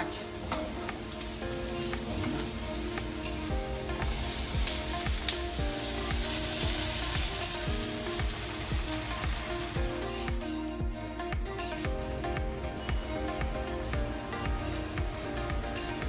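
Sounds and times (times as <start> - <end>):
vegetables sizzling in oil: 0.0 - 10.3, 12.0 - 16.0.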